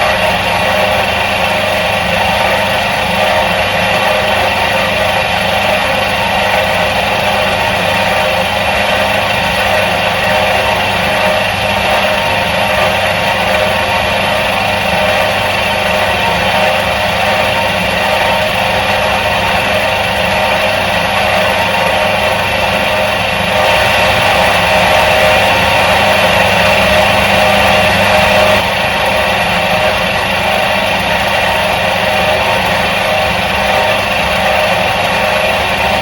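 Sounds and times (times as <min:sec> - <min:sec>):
washing machine motor humming: 0:00.0 - 0:36.0.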